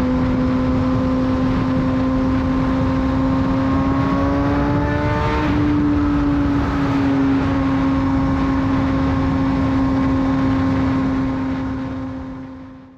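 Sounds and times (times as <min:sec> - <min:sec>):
motorcycle engine at high revs: 0:00.0 - 0:12.9
wind rush: 0:00.0 - 0:12.9.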